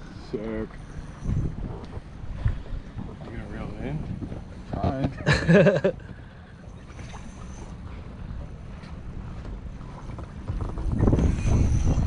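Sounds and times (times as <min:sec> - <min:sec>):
wind on the microphone: 0:00.0 - 0:05.2, 0:07.0 - 0:12.0.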